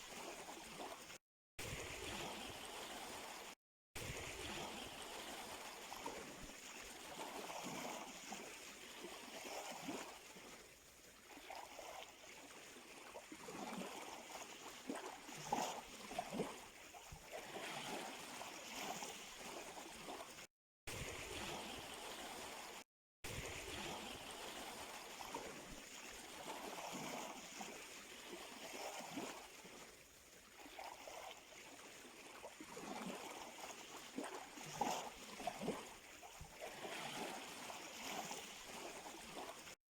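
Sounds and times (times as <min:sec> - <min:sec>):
small waves lapping at shore: 0:00.0 - 0:39.8.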